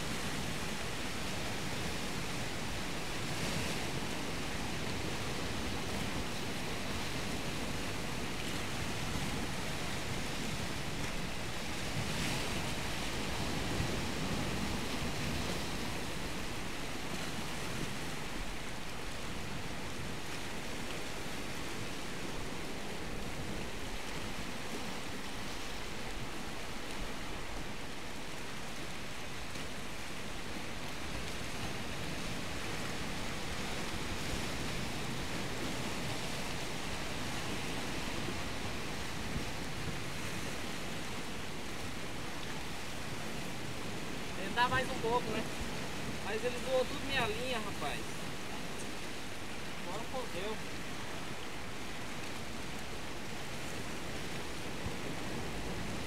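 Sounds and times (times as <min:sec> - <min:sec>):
sea surf: 0:00.0 - 0:56.0.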